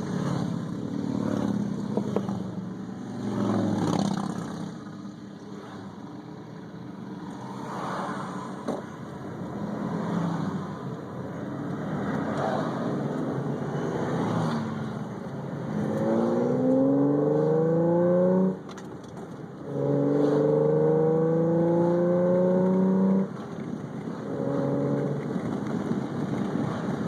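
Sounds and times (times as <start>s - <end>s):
vehicles running: 0.0s - 27.0s.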